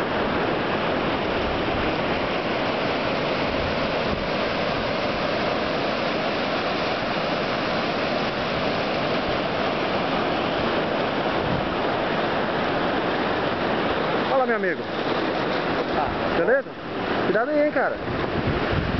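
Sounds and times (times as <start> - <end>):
ocean surf washing over rocks: 0.0 - 18.9.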